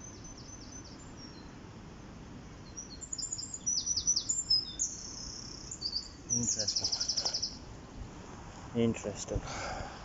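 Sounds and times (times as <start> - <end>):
songbird singing: 0.0 - 9.6.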